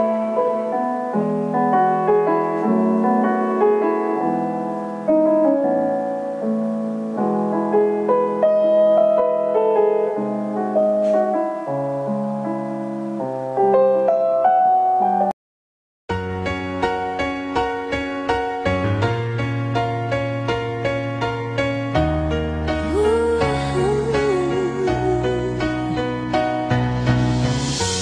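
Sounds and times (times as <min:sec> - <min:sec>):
piano music: 0:00.0 - 0:15.4, 0:16.1 - 0:28.0.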